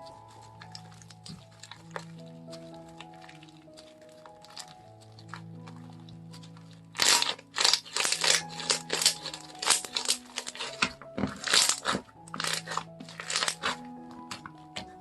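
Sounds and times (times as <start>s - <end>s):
hands squishing slime: 0.0s - 15.0s
quiet background music: 0.0s - 15.0s.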